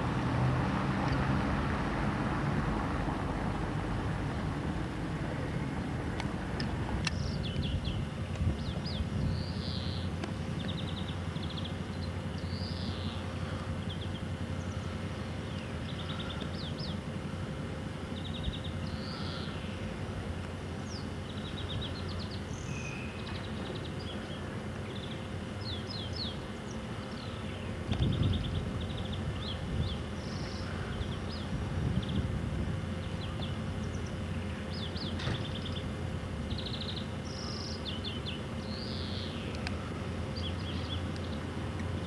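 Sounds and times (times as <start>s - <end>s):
small birds chirping: 6.6s - 17.3s, 18.0s - 20.2s, 20.8s - 42.0s.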